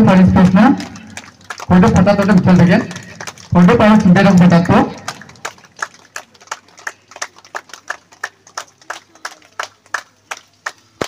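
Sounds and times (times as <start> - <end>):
crowd clapping in unison: 0.0 - 11.0.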